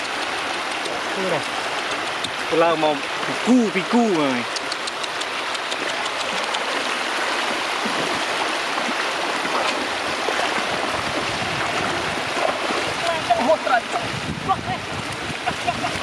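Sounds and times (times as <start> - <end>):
water rushing over road: 0.0 - 16.0.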